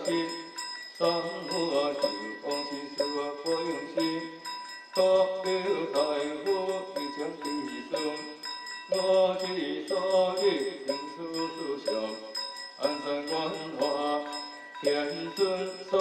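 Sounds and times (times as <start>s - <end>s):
scripture chanting: 0.0s - 16.0s.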